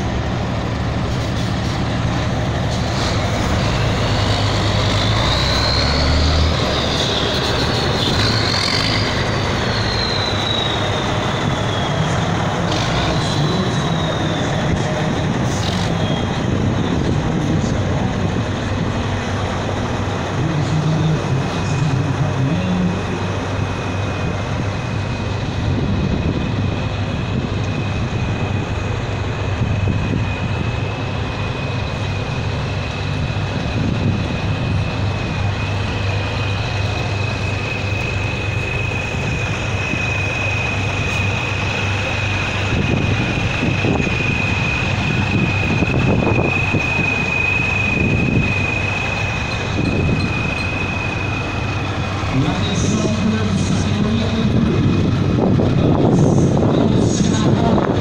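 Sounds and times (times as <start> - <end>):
high-pitched whine: 0.0 - 58.0
diesel truck engine idling: 10.8 - 58.0.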